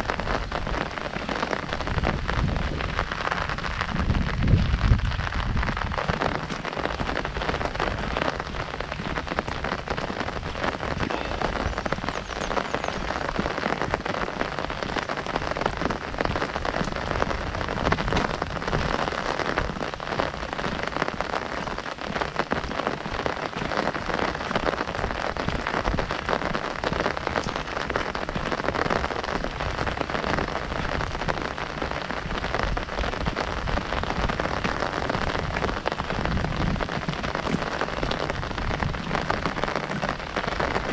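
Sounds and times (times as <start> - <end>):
heavy rain on an umbrella: 0.0 - 40.9.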